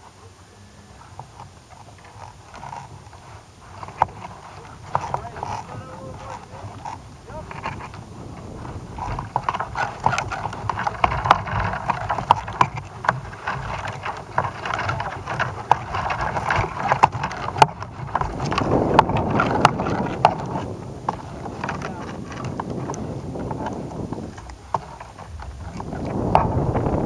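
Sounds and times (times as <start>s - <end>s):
wind rush on microphone: 1.1s - 27.0s.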